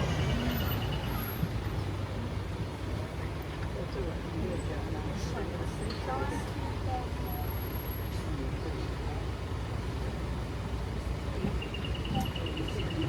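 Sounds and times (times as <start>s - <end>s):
road train engine rumble: 0.0s - 13.0s.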